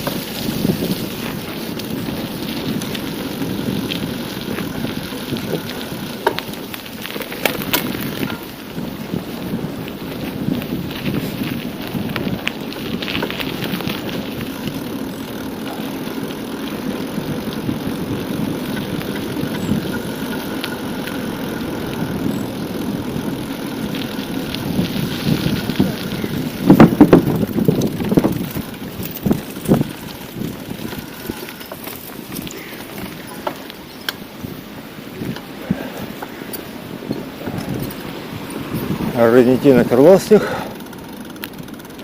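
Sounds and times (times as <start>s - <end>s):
wind rush: 0.0s - 6.7s, 7.5s - 14.9s, 16.8s - 31.5s, 34.3s - 40.9s
bicycle tyre noise: 0.0s - 42.0s.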